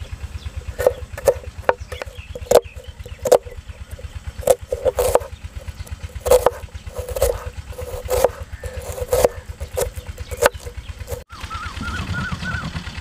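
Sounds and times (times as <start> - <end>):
knife chopping on wooden board: 0.8 - 11.2.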